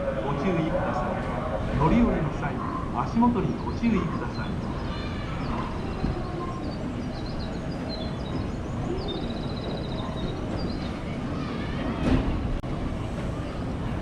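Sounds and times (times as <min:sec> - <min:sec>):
birds chirping: 0:00.0 - 0:12.0
low rumble of station platform: 0:00.0 - 0:14.0.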